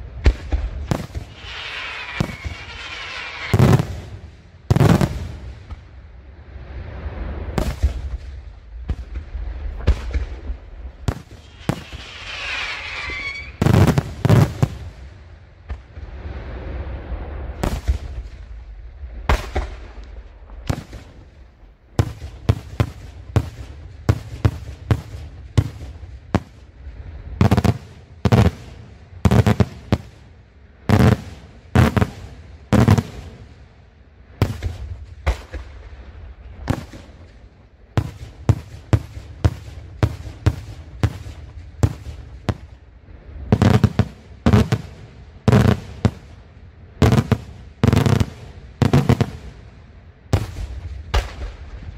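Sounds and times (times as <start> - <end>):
fireworks bursting with sharp bangs: 0.0 - 6.0, 7.2 - 16.4, 17.4 - 51.9.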